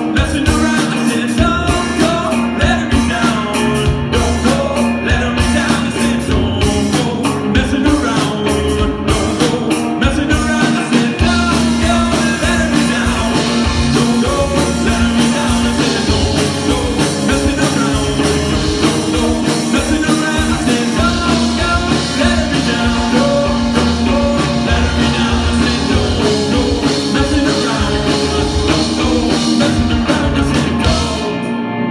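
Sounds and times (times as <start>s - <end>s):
rock band playing: 0.0s - 31.9s.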